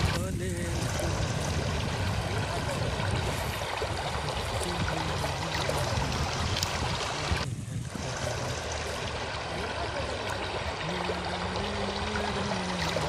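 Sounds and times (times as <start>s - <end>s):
river water running over gravel: 0.0s - 13.0s.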